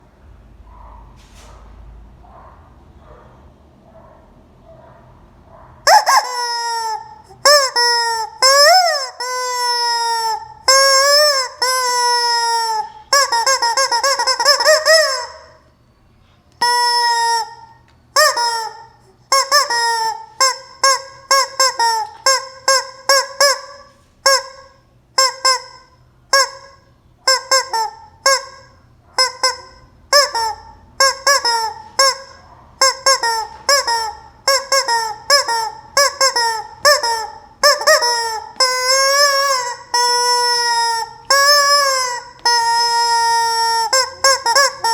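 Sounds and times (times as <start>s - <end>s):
toy chicken squawking: 5.9s - 15.7s, 16.6s - 44.9s.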